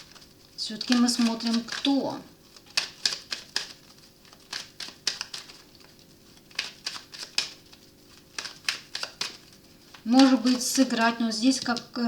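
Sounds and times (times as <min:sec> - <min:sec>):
cards snapping and flicking: 0:00.0 - 0:10.8.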